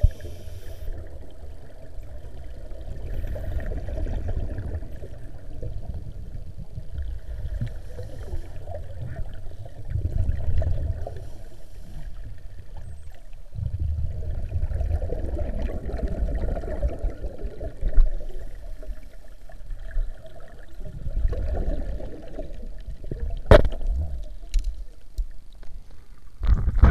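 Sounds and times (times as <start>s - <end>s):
underwater bubbling: 0.0s - 26.9s.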